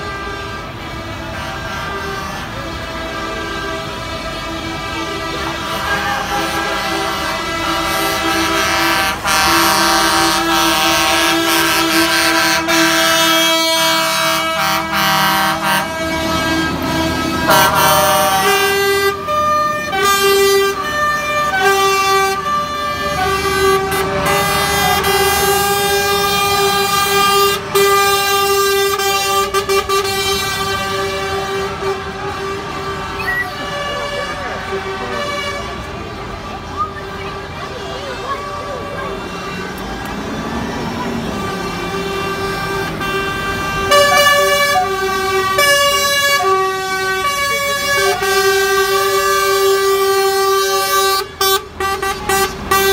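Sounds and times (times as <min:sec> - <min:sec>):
lorry air horns blasting: 0:00.0 - 0:36.7, 0:37.4 - 0:52.9
diesel engines running: 0:00.0 - 0:52.9.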